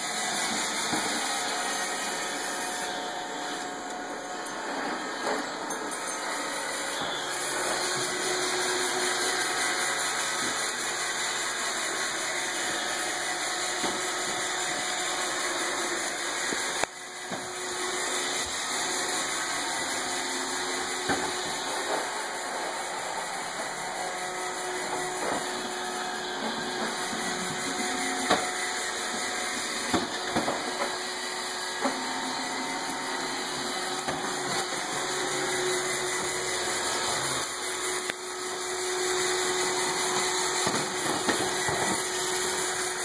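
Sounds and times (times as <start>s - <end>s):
robot vacuum cleaner running: 0.0s - 43.0s.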